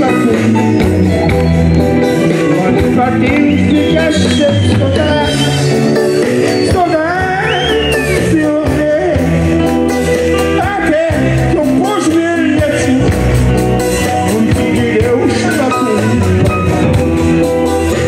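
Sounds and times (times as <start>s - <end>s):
lead melody gliding: 0.0s - 18.0s
live band playing: 0.0s - 18.0s.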